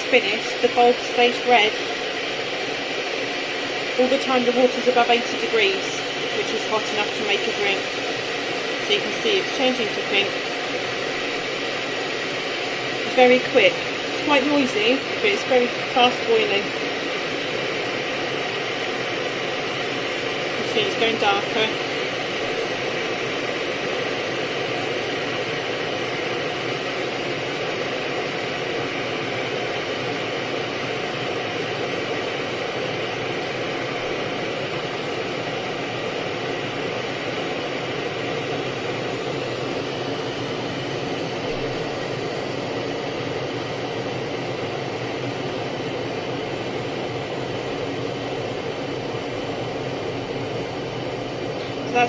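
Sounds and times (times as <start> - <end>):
electric kettle heating water: 0.0 - 52.0.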